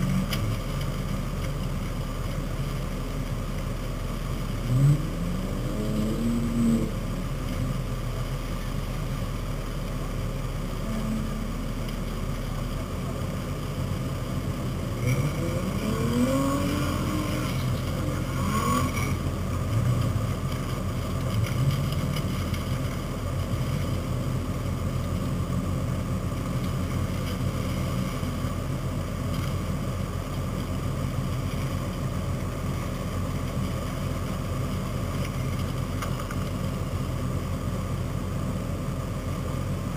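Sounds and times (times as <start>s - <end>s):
steady low hum: 0.0s - 39.9s
truck engines revving: 0.0s - 39.9s.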